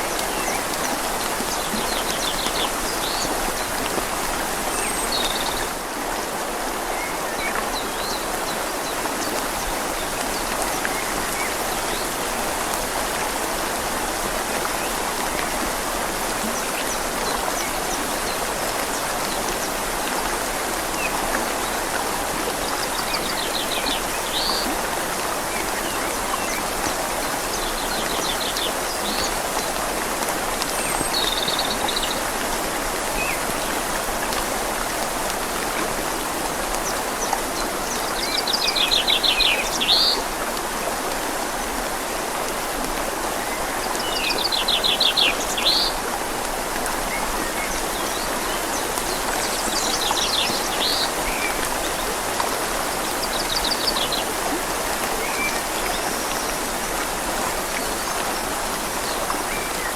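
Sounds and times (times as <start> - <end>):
rain falling on leaves: 0.0 - 59.9
river flowing: 0.0 - 59.9.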